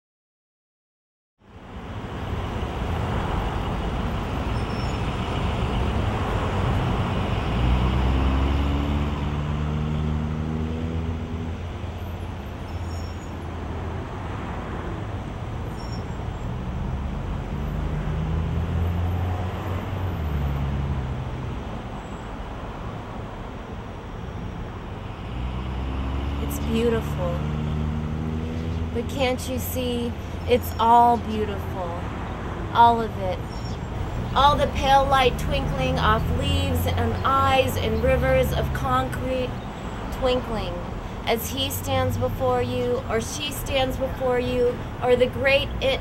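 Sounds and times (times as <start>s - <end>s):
heavy vehicle engine droning: 1.6s - 14.0s, 15.0s - 46.0s.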